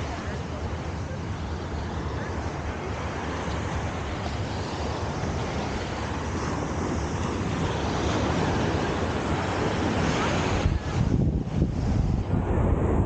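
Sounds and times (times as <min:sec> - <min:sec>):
surf breaking on shore: 0:00.0 - 0:13.0
wind rumbling on microphone: 0:00.0 - 0:13.0.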